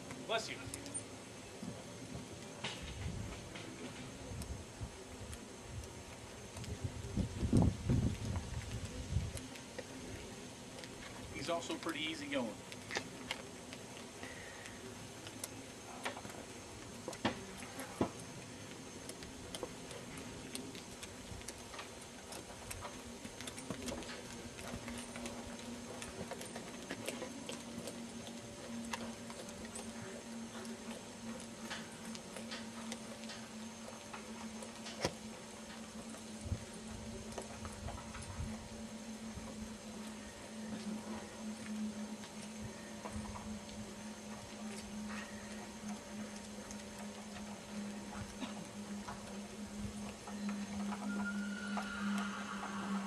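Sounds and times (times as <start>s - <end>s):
horse hooves on sand: 0.0s - 53.0s
steady low hum: 0.0s - 53.0s.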